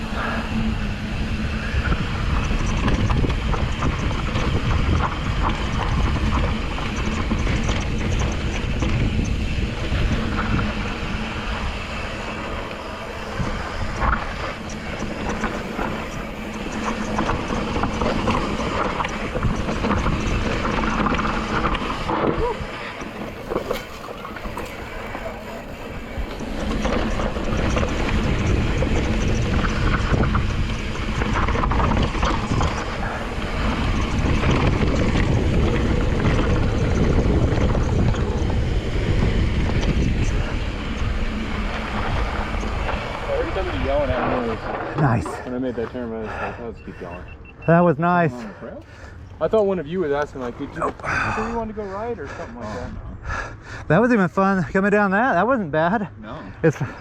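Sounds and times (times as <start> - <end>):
bike tyres rolling over rock: 0.0 - 46.4
wind buffeting microphone: 0.0 - 48.2
bike rattling: 0.0 - 57.0.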